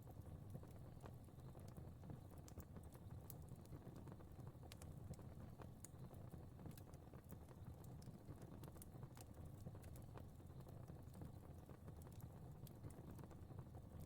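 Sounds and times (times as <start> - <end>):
low rumble of burning: 0.0 - 14.0.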